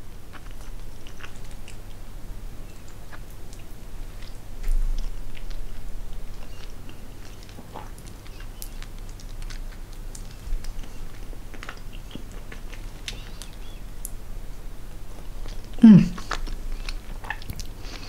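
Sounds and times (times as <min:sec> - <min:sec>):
person chewing gummy sweet: 0:00.2 - 0:14.2, 0:14.9 - 0:18.0.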